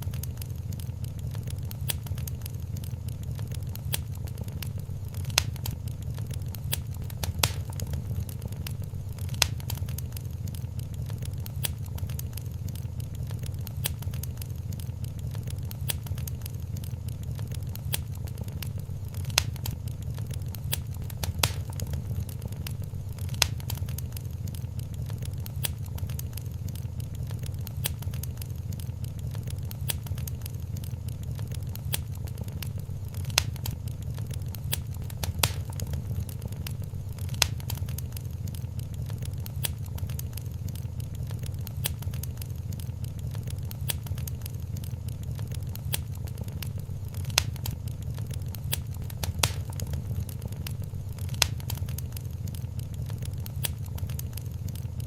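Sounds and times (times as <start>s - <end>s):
sharp pops from fire: 0.0s - 55.0s
wood fire crackling: 0.0s - 55.0s.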